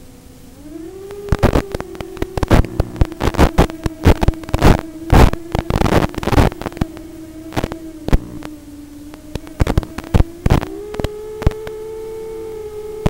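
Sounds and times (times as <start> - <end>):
static crackles and bursts: 0.0 - 13.0
steady electronic hum: 0.0 - 13.0.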